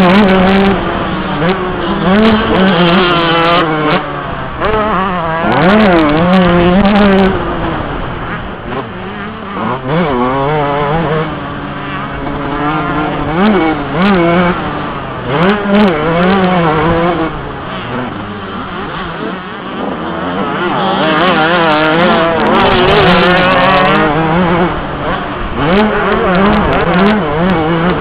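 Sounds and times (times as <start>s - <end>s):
motocross engine revving: 0.0s - 28.0s.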